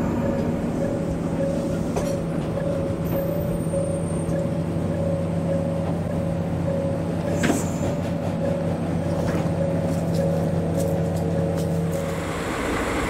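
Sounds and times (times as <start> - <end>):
diesel locomotive engines running: 0.0 - 13.0.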